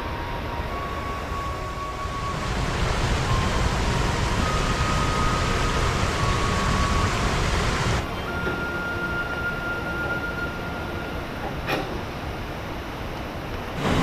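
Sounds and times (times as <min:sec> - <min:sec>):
stream water rushing: 0:01.6 - 0:14.0.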